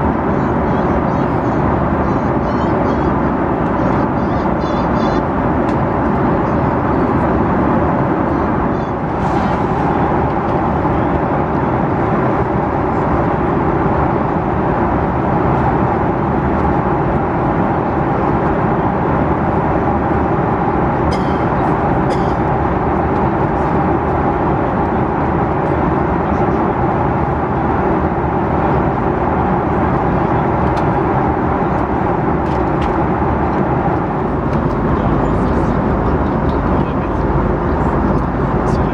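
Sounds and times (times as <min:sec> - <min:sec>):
aircraft cabin engine and airflow noise: 0:00.0 - 0:38.9.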